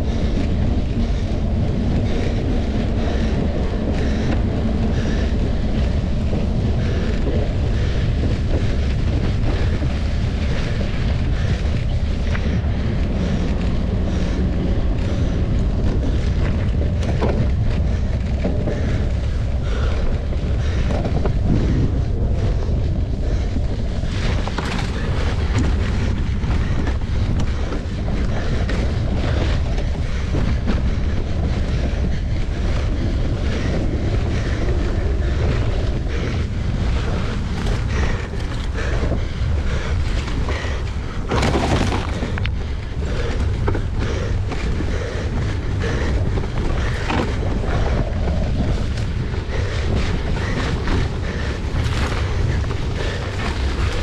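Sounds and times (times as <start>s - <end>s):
bike knocks and rattles: 0.0s - 54.0s
wind buffeting microphone: 0.0s - 54.0s.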